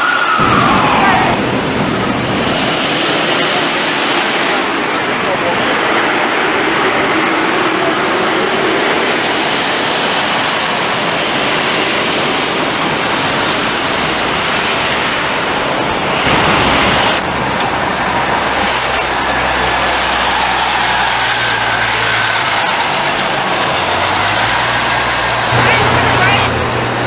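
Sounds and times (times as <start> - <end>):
bus driving past: 0.0 - 27.0
street traffic: 0.0 - 27.0
diesel bus engine rumble: 0.4 - 27.0.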